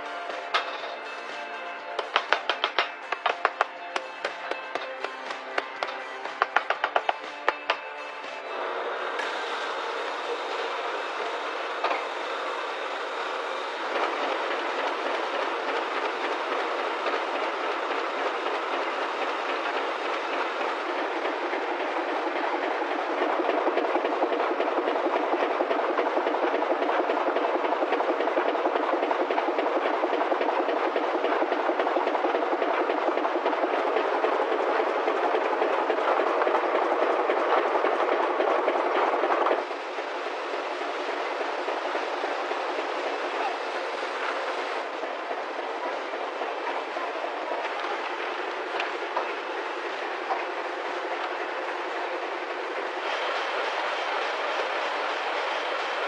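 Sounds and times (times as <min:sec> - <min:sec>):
printing press clattering: 0:00.0 - 0:08.4, 0:09.1 - 0:56.0.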